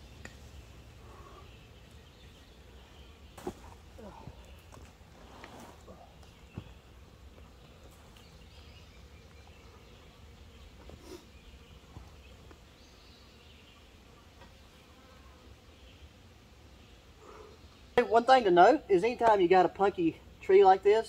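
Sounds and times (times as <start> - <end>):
faint insects buzzing: 0.0 - 21.0.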